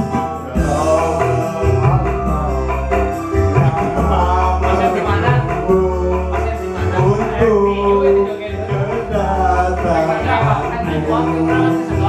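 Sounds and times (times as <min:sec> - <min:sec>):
backing track through speakers: 0:00.0 - 0:12.0
man singing into microphone: 0:00.0 - 0:12.0.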